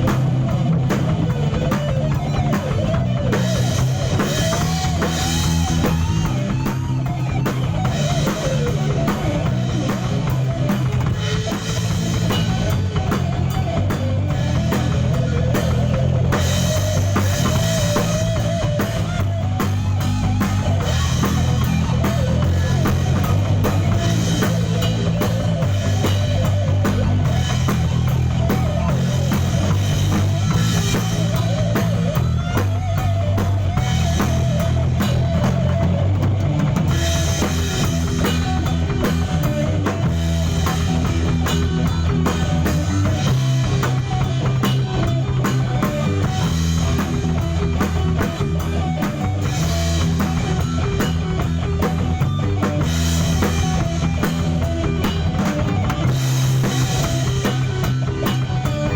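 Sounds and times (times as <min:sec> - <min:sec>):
bass drum and snare hitting: 0:00.0 - 0:58.9
low bass line: 0:00.0 - 0:58.9
rock band playing: 0:00.0 - 0:58.9.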